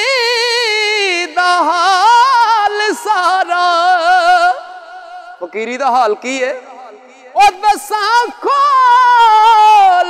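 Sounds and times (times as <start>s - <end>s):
man singing with vibrato: 0.0s - 10.0s.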